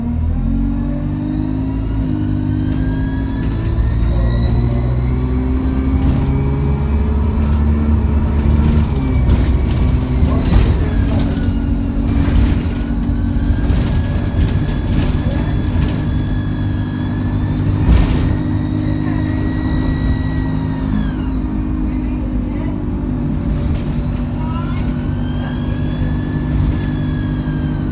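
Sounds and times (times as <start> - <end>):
bus engine with turbo whine: 0.0 - 27.9
bus body knocks and rattles: 1.3 - 27.9.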